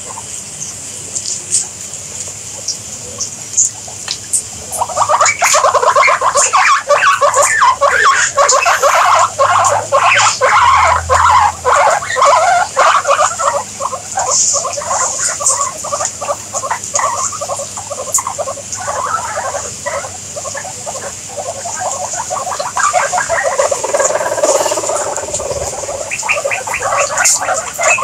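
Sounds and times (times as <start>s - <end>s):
guinea pigs squeaking: 2.6s - 28.0s.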